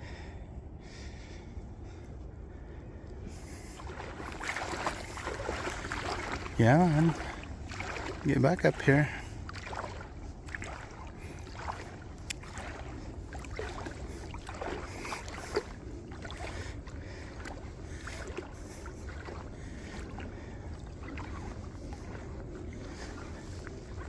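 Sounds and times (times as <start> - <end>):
wind rumble on microphone: 0.0 - 24.0
splashy swishes: 3.4 - 24.0
river water rushing: 3.6 - 23.3.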